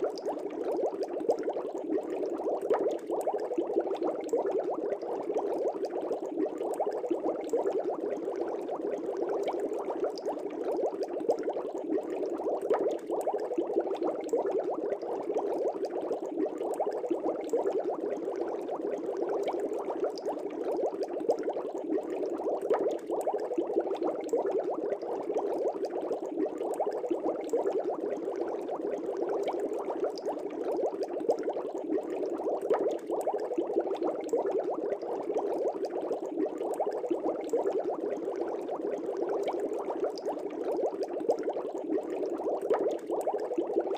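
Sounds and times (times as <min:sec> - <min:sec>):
air bubbles in fish tank: 0:00.0 - 0:43.9.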